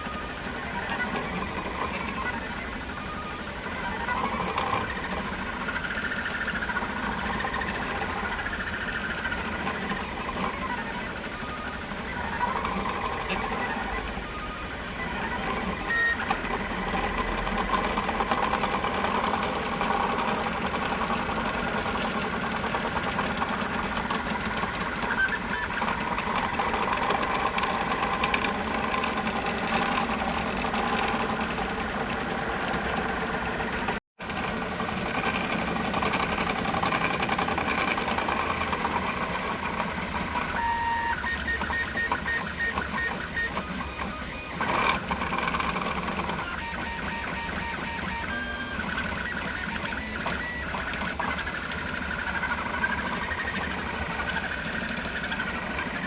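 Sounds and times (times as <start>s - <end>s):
printer stepper motors buzzing: 0.0s - 56.0s.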